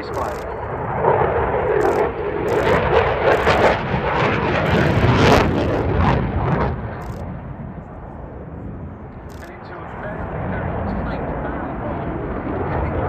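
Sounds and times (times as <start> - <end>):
jet engines with crackling afterburner: 0.0 - 13.0.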